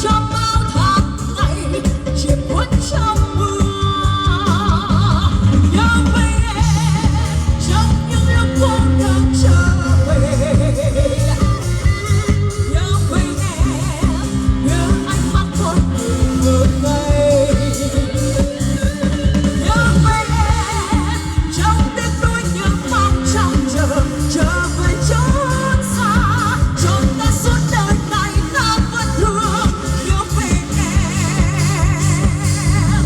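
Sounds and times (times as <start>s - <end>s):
pop song over loudspeakers: 0.0s - 33.0s.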